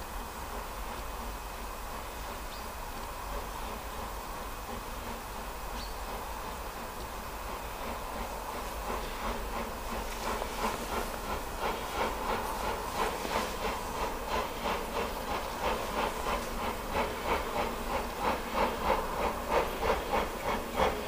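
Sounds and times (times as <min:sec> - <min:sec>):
steam hissing: 0:00.0 - 0:21.0
steam locomotive exhaust chuffing: 0:00.0 - 0:21.0.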